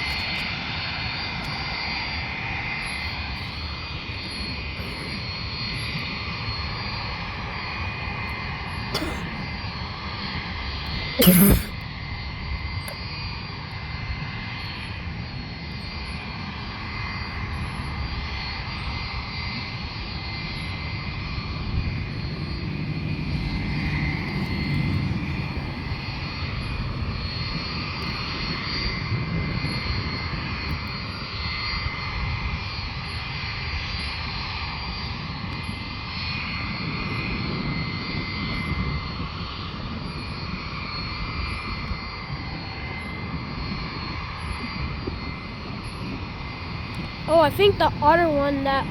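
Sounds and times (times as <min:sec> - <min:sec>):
aircraft turbine engines whining: 0:00.0 - 0:48.9.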